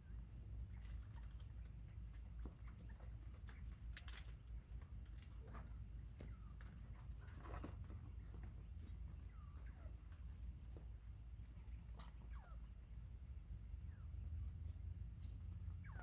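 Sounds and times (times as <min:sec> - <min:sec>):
low steady rumble: 0:00.0 - 0:16.0
quail peeping: 0:00.0 - 0:16.0.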